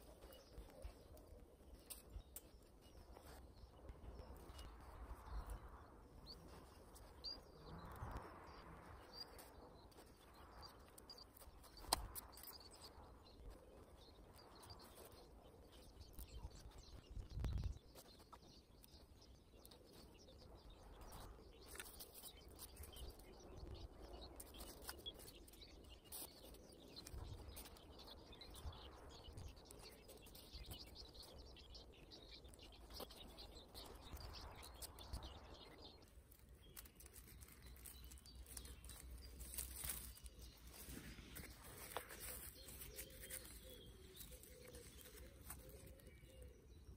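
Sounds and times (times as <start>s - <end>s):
faint bird chirps: 0.0s - 46.9s
rustling of fabric and leaves: 0.0s - 46.9s.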